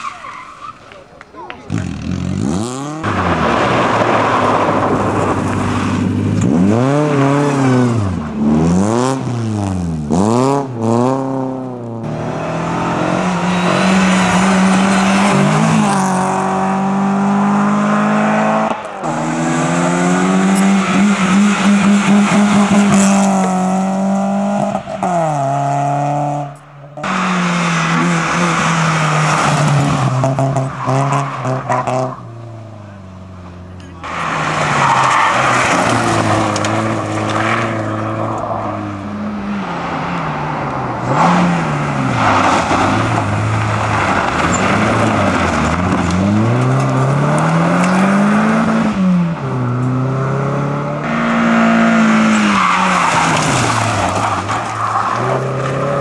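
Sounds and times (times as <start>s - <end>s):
rally car engines revving hard: 1.7s - 56.0s.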